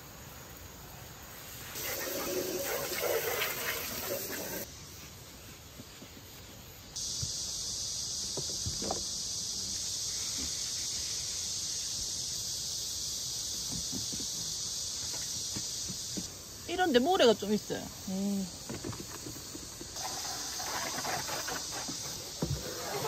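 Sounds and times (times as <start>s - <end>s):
cicadas droning: 0.0s - 23.0s.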